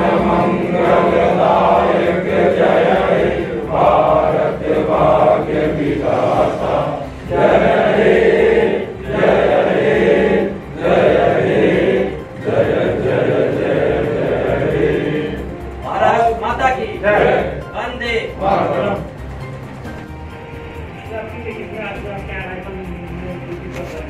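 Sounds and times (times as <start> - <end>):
group chanting in unison: 0.0 - 19.3.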